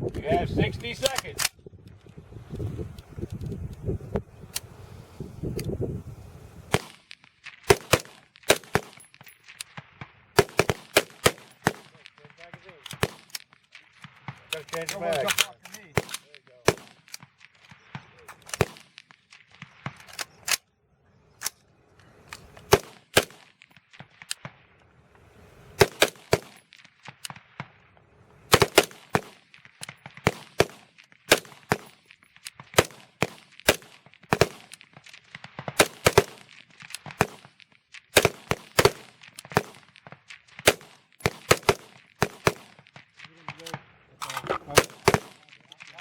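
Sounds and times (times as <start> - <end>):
rifle shots: 0.8 - 1.6, 6.7 - 20.6, 22.4 - 24.7, 25.6 - 46.0.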